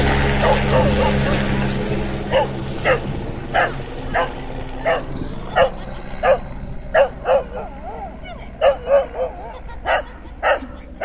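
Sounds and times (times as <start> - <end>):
helicopter drone: 0.0 - 11.0
dog barking: 0.4 - 1.5, 2.3 - 11.0.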